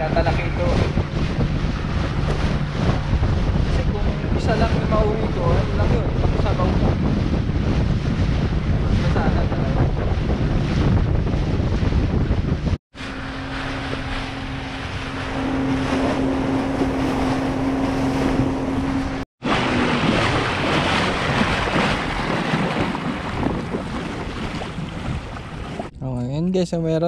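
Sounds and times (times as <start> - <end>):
steady engine drone: 0.0 - 21.7
water rushing past boat hull: 0.0 - 25.9
wind buffeting microphone: 0.0 - 25.9.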